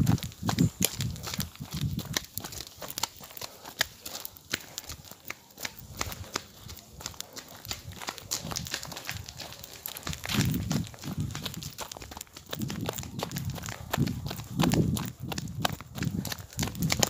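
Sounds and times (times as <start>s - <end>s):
sandal footsteps on dirt road: 0.0s - 17.0s.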